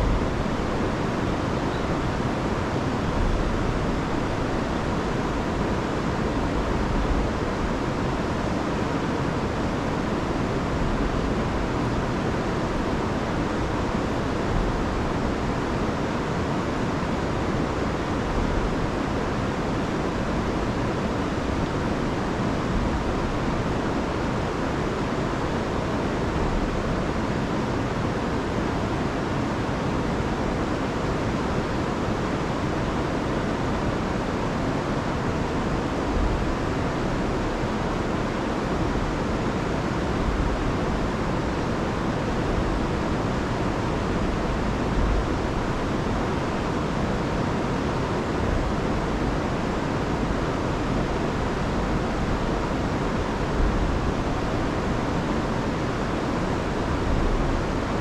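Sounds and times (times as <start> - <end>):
river and waterfall rushing: 0.0 - 58.0.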